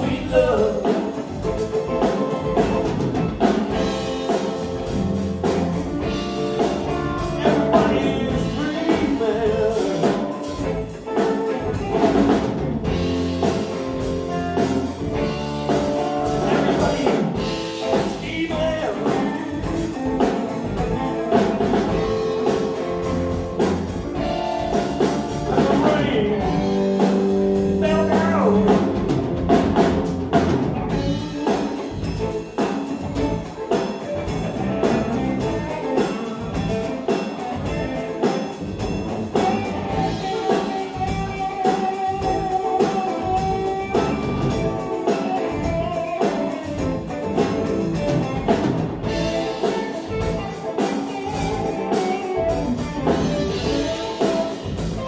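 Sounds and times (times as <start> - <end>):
guitar lead with bending notes: 0.0 - 55.0
live rock band playing: 0.0 - 55.0.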